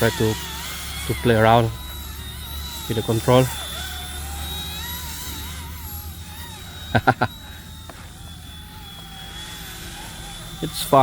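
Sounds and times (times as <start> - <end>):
model helicopter motor whine: 0.0 - 11.0.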